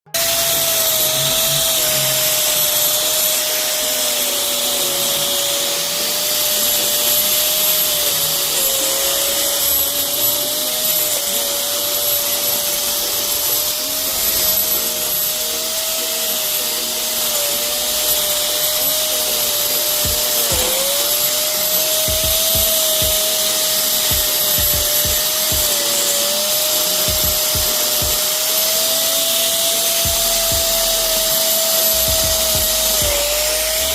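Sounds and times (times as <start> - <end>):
electric grinder grinding mortar: 0.0 - 33.9.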